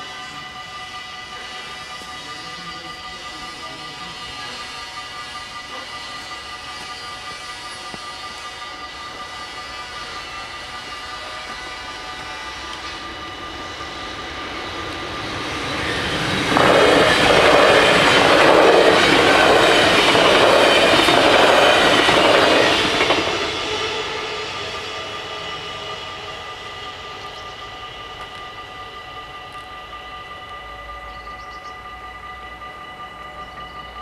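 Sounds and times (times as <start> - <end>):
crossing warning bells: 0.0 - 34.0
train wheels on rails: 0.0 - 34.0.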